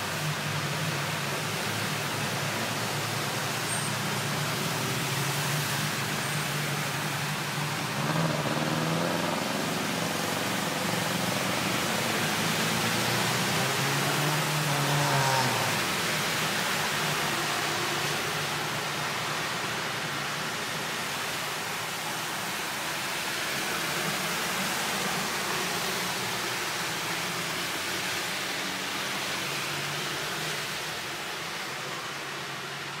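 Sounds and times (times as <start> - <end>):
heavy rainstorm rushing: 0.0 - 33.0.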